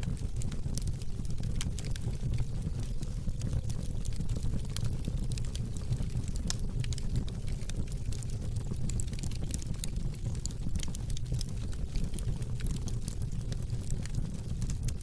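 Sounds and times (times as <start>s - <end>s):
fire burning: 0.0s - 15.0s
fire crackling and popping: 0.0s - 15.0s.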